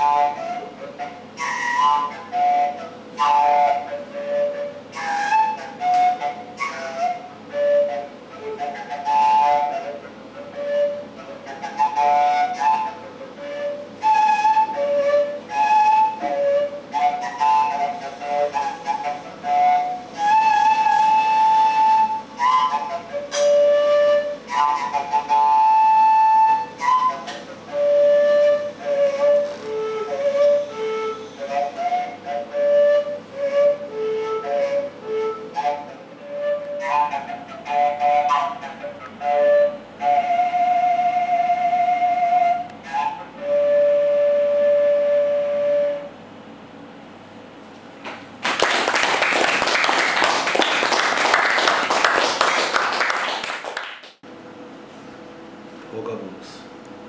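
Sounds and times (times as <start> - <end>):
solo flute-like melody: 0.0 - 47.0, 48.5 - 54.3.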